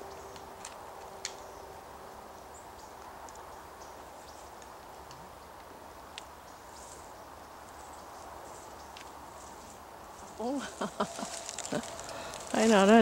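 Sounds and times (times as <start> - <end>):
low outdoor hiss: 0.0 - 13.0.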